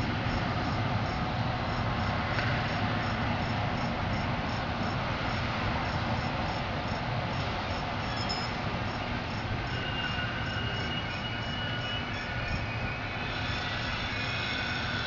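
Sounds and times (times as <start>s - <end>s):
crickets chirping: 0.0s - 15.0s
train rolling slowly over track: 0.0s - 15.0s.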